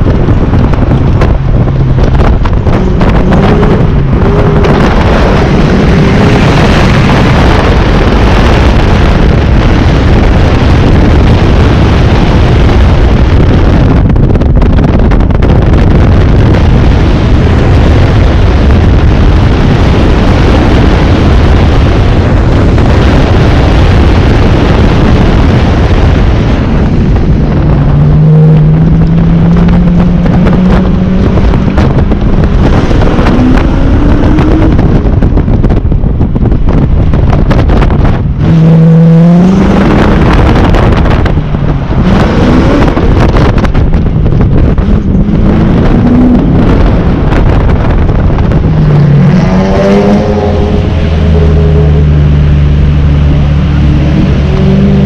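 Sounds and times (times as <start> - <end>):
car engine running hard: 0.0 - 55.0
wind rushing over microphone: 0.0 - 55.0.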